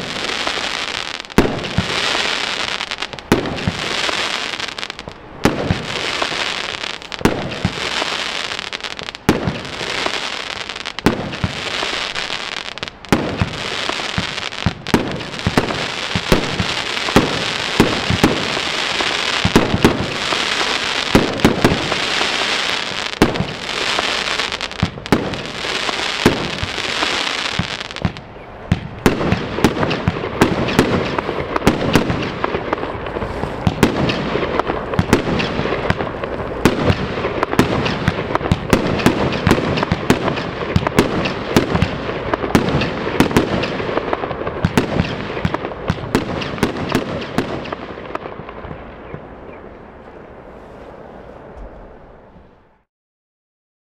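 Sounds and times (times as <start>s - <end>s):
hiss of bursting fireworks: 0.0s - 48.8s
firework bangs: 0.0s - 49.2s.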